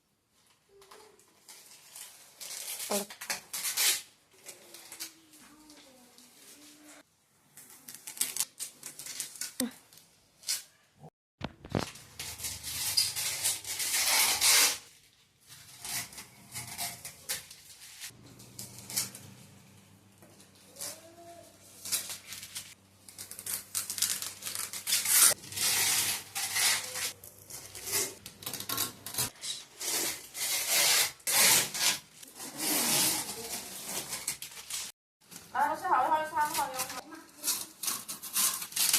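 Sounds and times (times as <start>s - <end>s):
packaging rustling and scraping: 0.7s - 10.8s, 11.5s - 19.7s, 20.3s - 38.9s.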